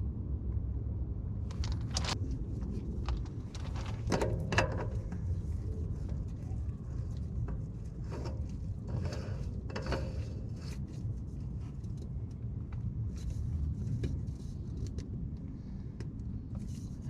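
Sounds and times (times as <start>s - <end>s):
low rumble: 0.0s - 17.0s
oil filter clicks and scrapes: 1.5s - 17.0s.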